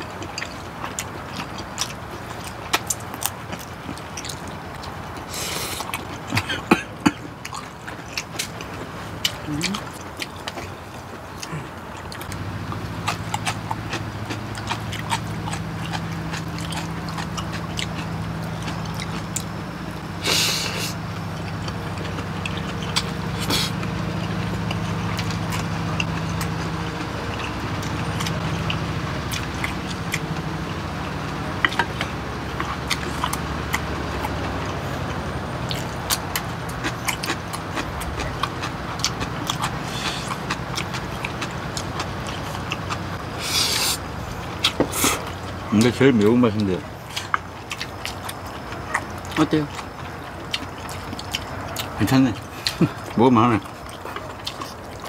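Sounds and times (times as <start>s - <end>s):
chewing and slurping: 0.0s - 55.0s
steady low hum: 0.0s - 55.0s.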